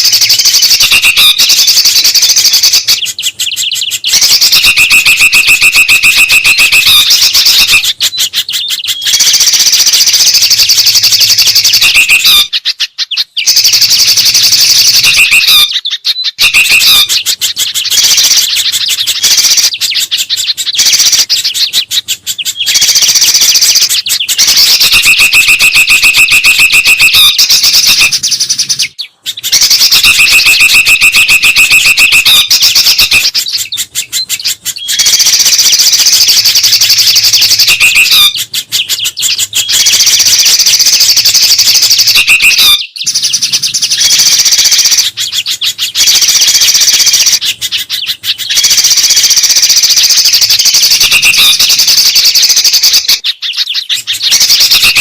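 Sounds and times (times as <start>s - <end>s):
bird whistles: 0.0s - 55.0s
songbirds chattering and trilling: 0.0s - 55.0s.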